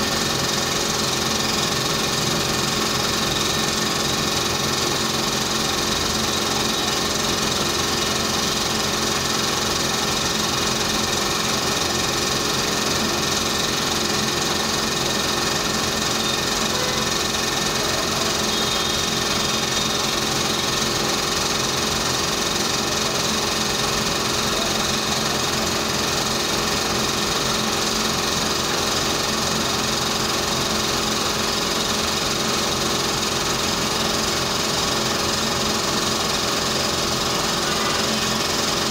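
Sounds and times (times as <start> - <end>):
dental equipment motor whirring: 0.0 - 38.9.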